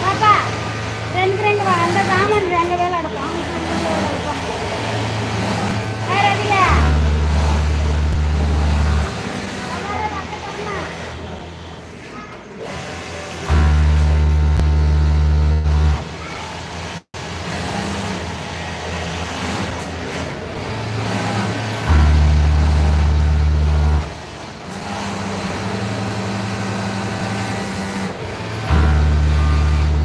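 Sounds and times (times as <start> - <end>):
din of other machines: 0.0 - 30.0
industrial sewing machine humming: 0.0 - 30.0.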